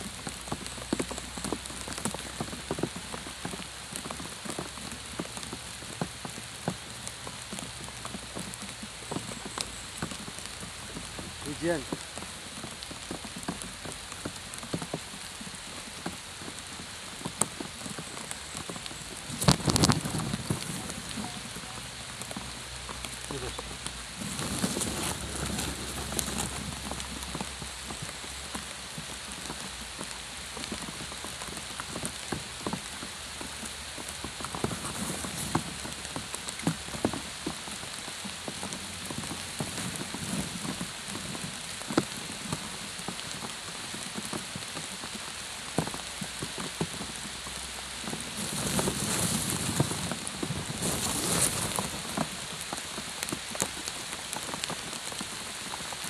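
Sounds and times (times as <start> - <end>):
rain falling on water and grass: 0.0 - 56.0
rustling: 0.0 - 56.0.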